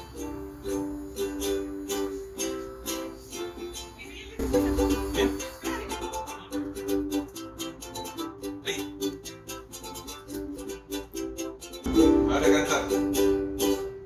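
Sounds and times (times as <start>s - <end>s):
ukuleles strumming chords: 0.0s - 14.0s.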